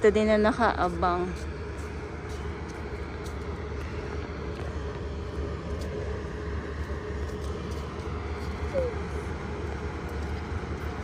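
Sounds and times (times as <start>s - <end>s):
faint steady hum: 0.0s - 11.0s
low rumble: 0.0s - 11.0s.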